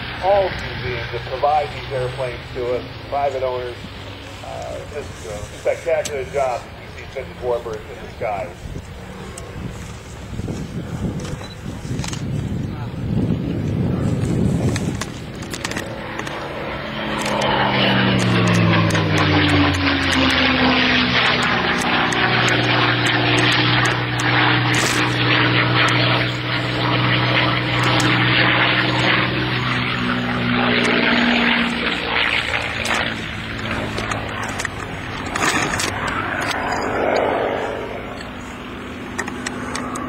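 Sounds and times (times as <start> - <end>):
propeller plane engine droning overhead: 0.0 - 40.0.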